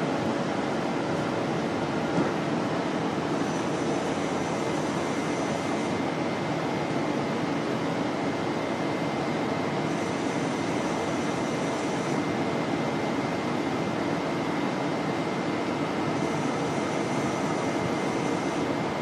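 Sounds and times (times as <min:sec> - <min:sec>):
train hum and rumble: 0:00.0 - 0:19.0
thin steady whine: 0:03.1 - 0:19.0.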